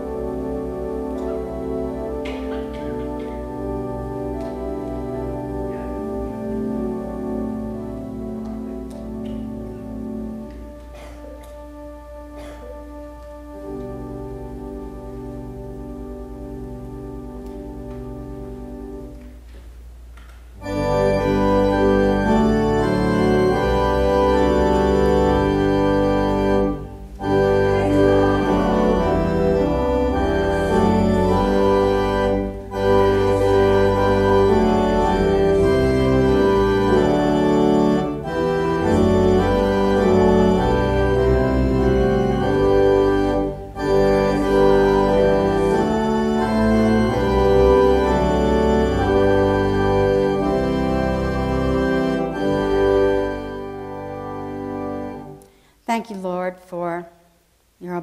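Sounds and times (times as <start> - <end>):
organ playing loud chords: 0.0 - 55.9.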